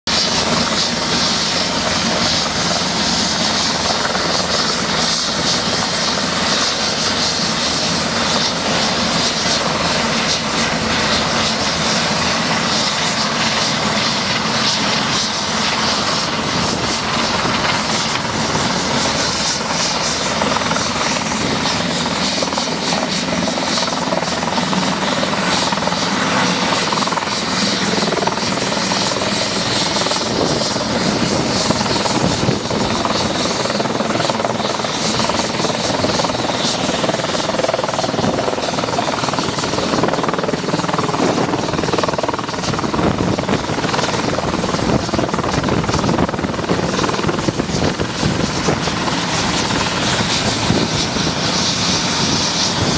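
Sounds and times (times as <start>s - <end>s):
helicopter rotor and engine: 0.0s - 52.9s.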